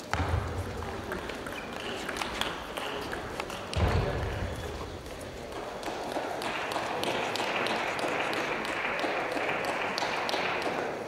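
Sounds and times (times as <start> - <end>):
crowd clapping: 0.0 - 11.0.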